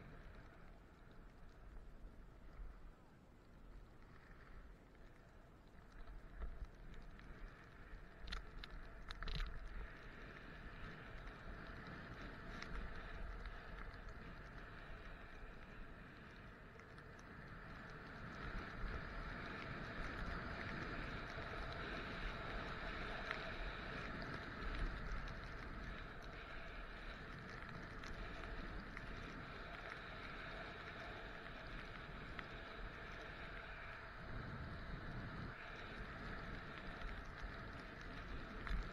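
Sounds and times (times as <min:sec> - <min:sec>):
faint ticks: 0:00.0 - 0:38.9
wind rumbling on microphone: 0:00.0 - 0:38.9
skis sliding over snow: 0:06.0 - 0:38.9.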